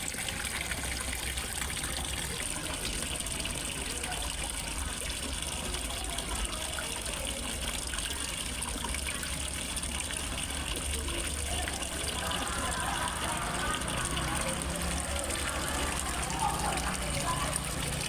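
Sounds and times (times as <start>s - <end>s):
water splashing into pond: 0.0s - 18.0s.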